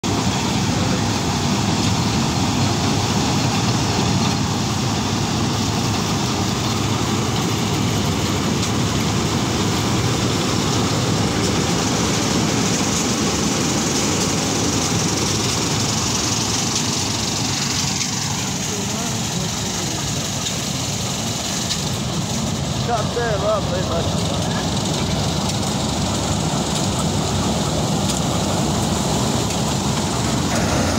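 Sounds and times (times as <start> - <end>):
combine harvester running: 0.0 - 30.9.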